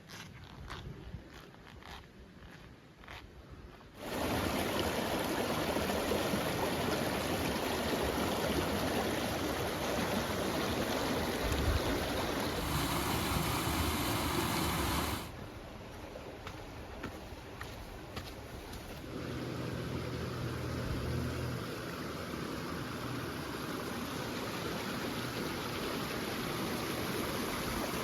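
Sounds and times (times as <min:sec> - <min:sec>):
creek water rushing: 0:04.0 - 0:28.0.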